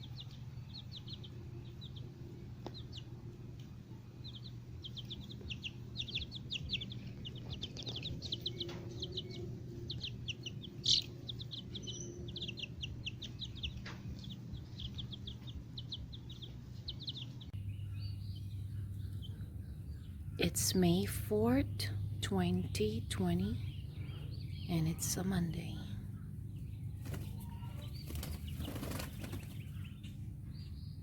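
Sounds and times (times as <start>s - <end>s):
chicks peeping: 0.0s - 31.0s
steady low hum: 0.0s - 31.0s.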